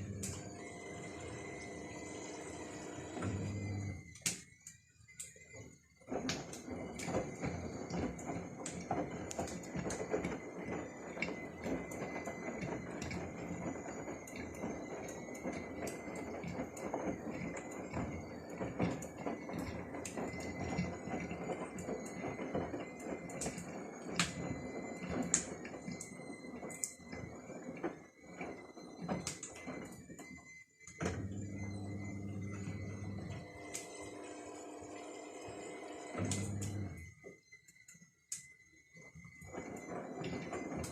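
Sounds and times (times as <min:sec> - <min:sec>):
washing machine drum churning: 0:00.0 - 0:04.2, 0:06.1 - 0:30.2, 0:30.9 - 0:37.0, 0:39.4 - 0:40.9
kettle whistling: 0:00.0 - 0:40.9.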